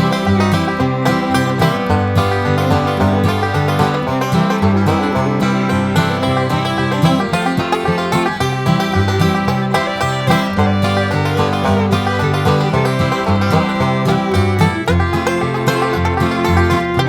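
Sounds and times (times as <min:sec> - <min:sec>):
acoustic guitar: 0:00.0 - 0:17.0
banjo: 0:00.0 - 0:17.0
upbeat bluegrass music: 0:00.0 - 0:17.0
walking bass line: 0:00.0 - 0:17.0.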